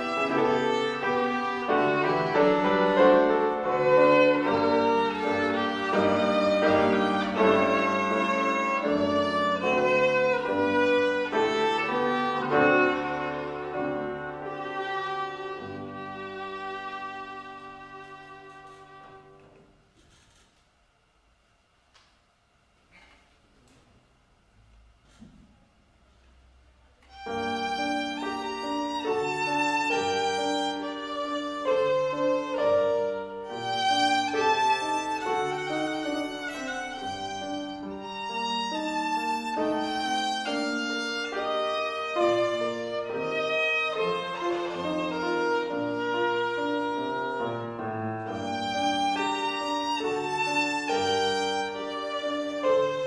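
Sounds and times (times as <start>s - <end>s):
grand piano accompaniment: 0.0s - 19.8s, 26.4s - 53.0s
bowed violin: 0.0s - 20.3s, 27.0s - 53.0s.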